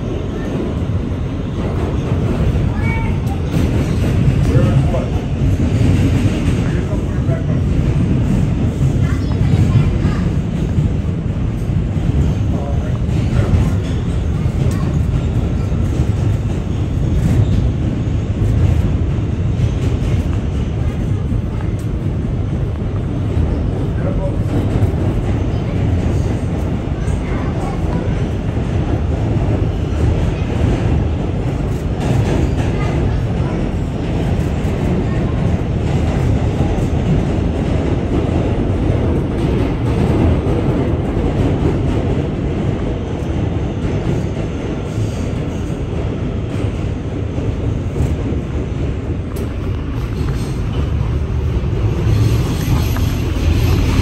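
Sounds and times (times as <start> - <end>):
subway wheels rumbling on track: 0.0 - 54.0.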